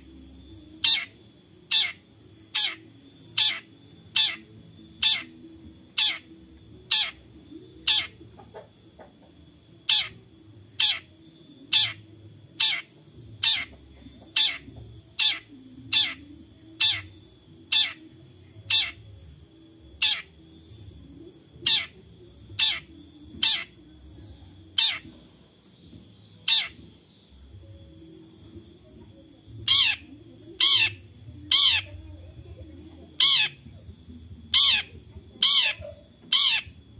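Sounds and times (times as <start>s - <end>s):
shrike calling: 0.1s - 36.9s.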